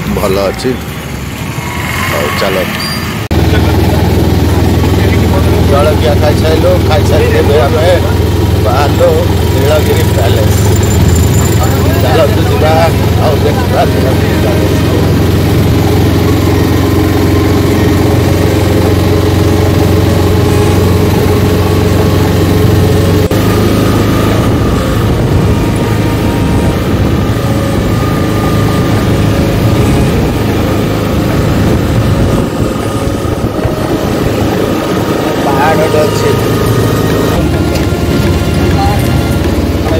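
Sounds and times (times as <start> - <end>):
auto-rickshaw engine running: 0.0 - 39.9
road and wind noise: 0.0 - 39.9.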